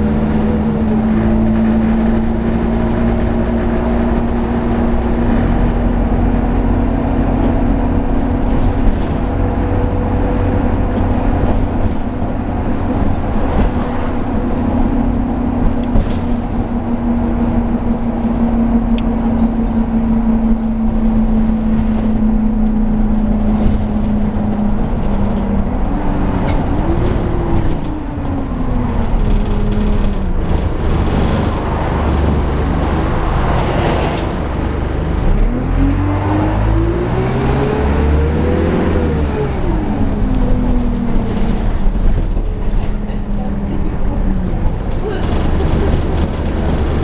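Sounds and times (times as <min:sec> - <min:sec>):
bus diesel engine: 0:00.0 - 0:47.0
road and body rumble: 0:00.0 - 0:47.0.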